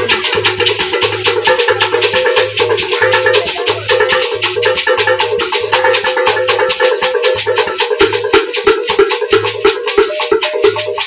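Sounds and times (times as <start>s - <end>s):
iron gong-bell beaten rhythmically: 0.0s - 11.0s.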